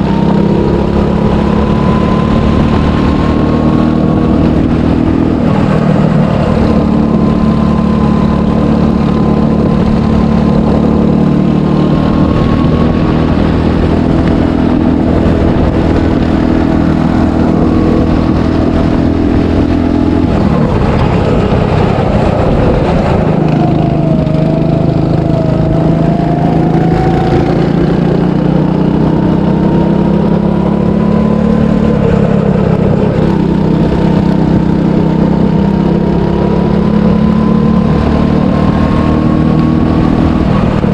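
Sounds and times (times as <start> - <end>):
go-kart engine running hard: 0.0 - 40.9.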